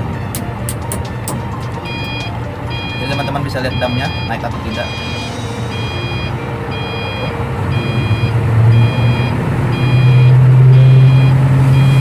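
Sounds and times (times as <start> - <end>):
truck diesel engine under load: 0.0 - 12.0
warning beeper: 1.8 - 12.0.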